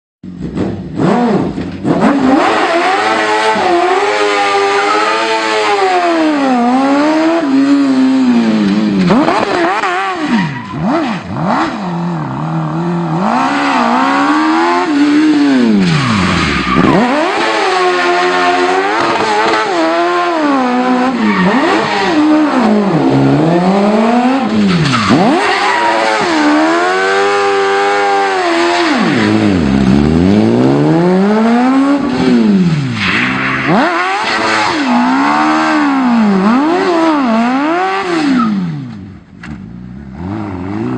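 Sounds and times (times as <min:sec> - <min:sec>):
motorcycle engine revving: 0:00.2 - 0:40.9.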